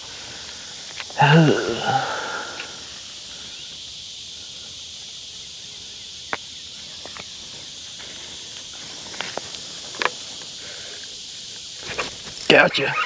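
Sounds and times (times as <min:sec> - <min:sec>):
insect chorus hiss: 0:00.0 - 0:13.0.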